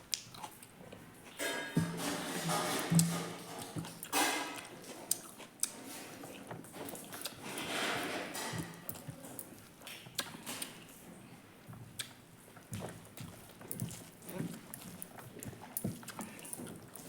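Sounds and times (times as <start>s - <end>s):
person chewing food: 0.1s - 2.0s, 2.8s - 10.9s, 11.7s - 17.0s.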